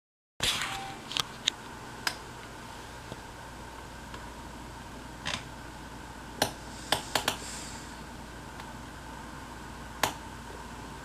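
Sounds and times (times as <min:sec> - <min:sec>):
faint hum: 0:00.4 - 0:11.0.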